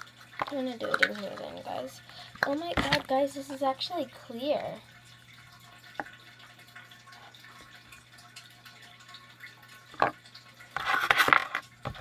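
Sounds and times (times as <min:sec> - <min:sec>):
liquid trickling into a bowl: 0:00.0 - 0:12.0.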